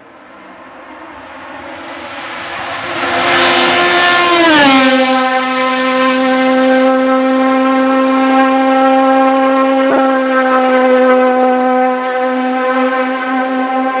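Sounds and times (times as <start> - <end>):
racing car engine passing at high revs: 0.0 - 14.0.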